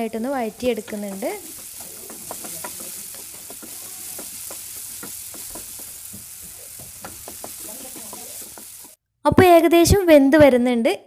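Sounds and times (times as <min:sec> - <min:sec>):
spatula scraping a pan: 0:00.0 - 0:09.0
vegetables sizzling in oil: 0:00.0 - 0:09.0.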